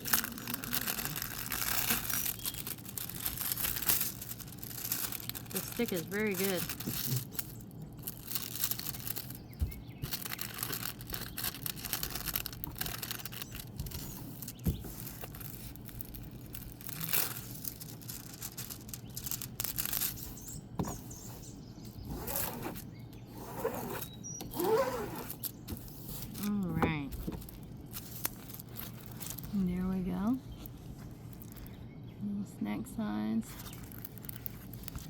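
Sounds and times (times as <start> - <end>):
plastic film rustling and crinkling: 0.0 - 31.8, 33.4 - 35.0.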